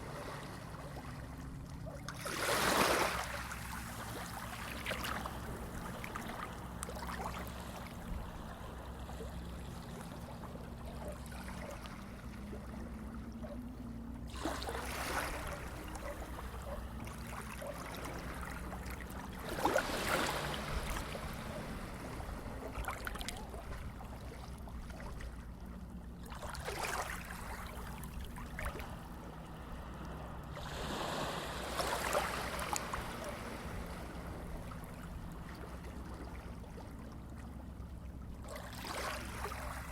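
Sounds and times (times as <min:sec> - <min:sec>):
sea waves washing ashore: 0:00.0 - 0:39.9
low steady hum: 0:03.0 - 0:39.9.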